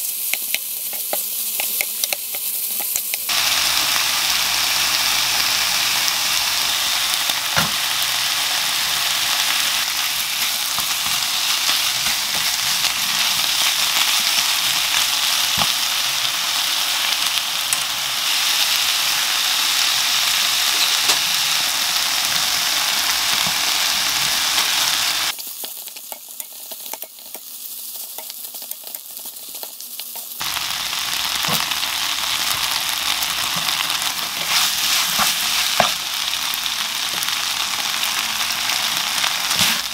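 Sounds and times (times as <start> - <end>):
meat and onion sizzling in pan: 0.0 - 39.9.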